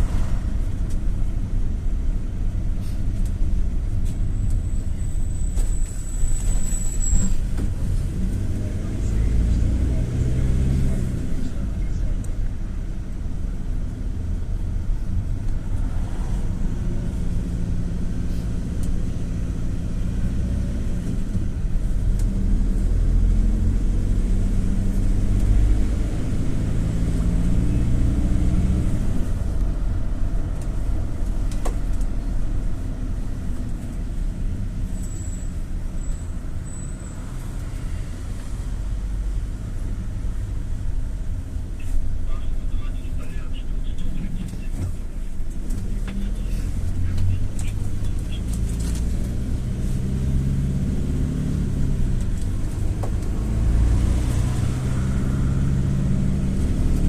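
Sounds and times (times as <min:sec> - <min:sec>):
minibus engine hum: 0:00.0 - 0:57.0
road rumble: 0:00.0 - 0:57.0.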